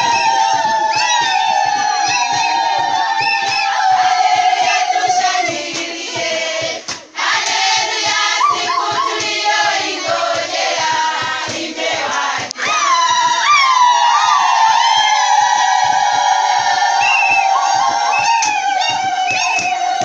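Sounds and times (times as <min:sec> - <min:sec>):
women singing together: 0:00.0 - 0:20.0.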